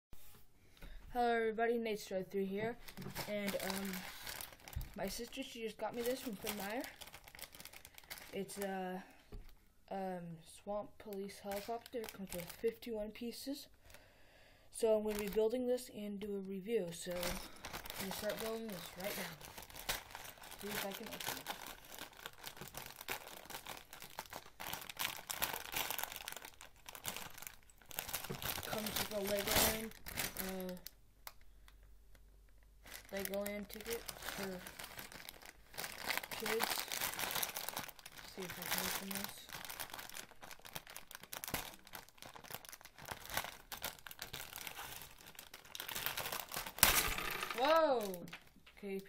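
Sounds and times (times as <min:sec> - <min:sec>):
plastic bag crinkling: 0:02.7 - 0:08.8, 0:11.0 - 0:12.8, 0:15.0 - 0:15.6, 0:17.0 - 0:48.7.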